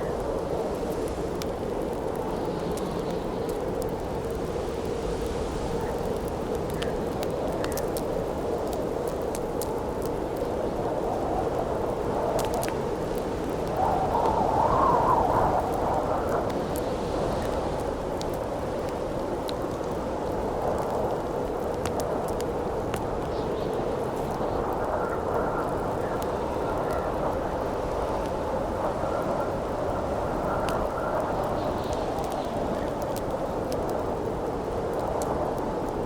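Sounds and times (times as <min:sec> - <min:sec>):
campfire crackling: 0:00.0 - 0:36.0
strong wind howling: 0:00.0 - 0:36.0.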